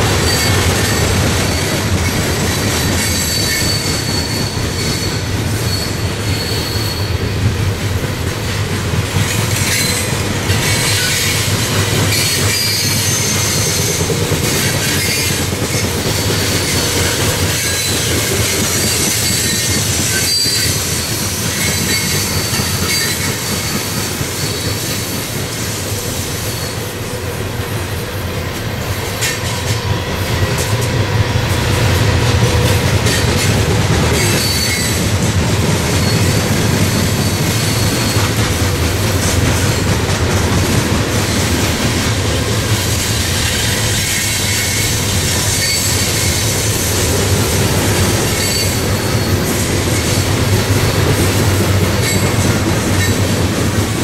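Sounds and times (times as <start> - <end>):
wheels clacking over rail joints: 0.0 - 25.6, 28.6 - 54.0
train wheels rumbling on rail: 0.0 - 54.0.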